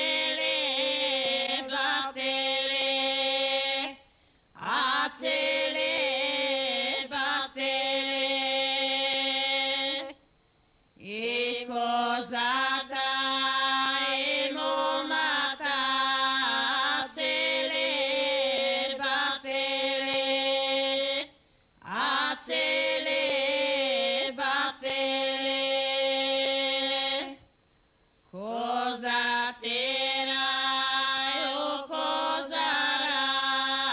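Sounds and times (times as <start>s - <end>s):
women singing: 0.0s - 4.0s, 4.6s - 10.2s, 11.0s - 27.5s, 28.4s - 33.9s.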